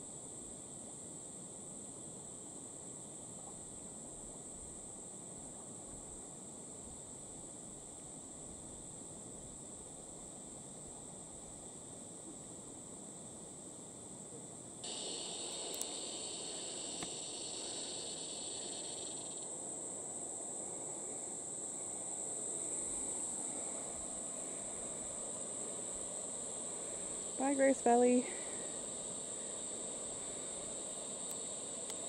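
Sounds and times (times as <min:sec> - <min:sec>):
high-pitched insect chorus: 0:00.0 - 0:32.0
low insect buzz: 0:00.0 - 0:32.0.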